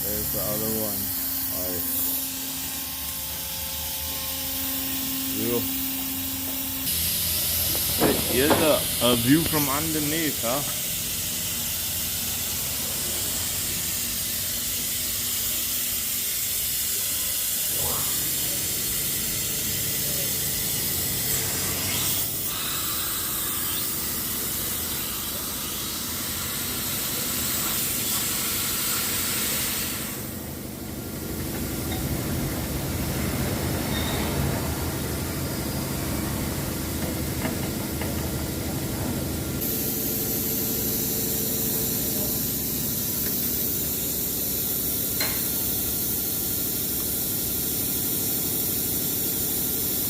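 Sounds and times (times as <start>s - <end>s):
compressed air hissing: 0.0s - 30.7s, 39.6s - 50.0s.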